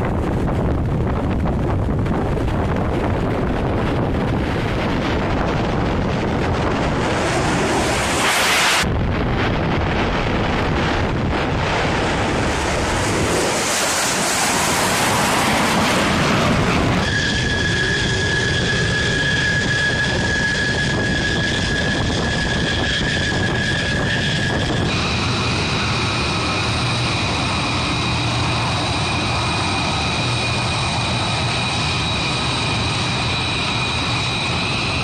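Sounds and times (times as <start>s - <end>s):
high-pitched jet engine whine: 0.0s - 35.0s
jet engine roar: 0.0s - 35.0s.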